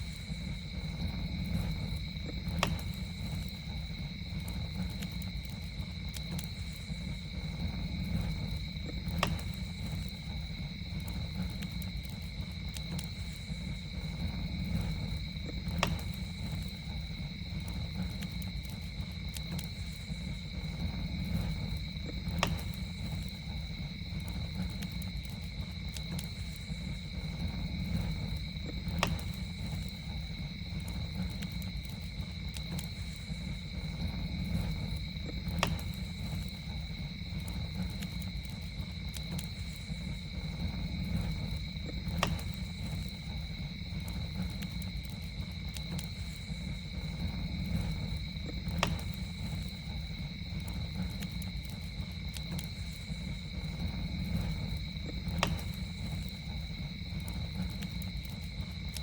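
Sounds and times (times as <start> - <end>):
campfire crackling: 0.0 - 59.0
high insect trill: 0.0 - 59.0.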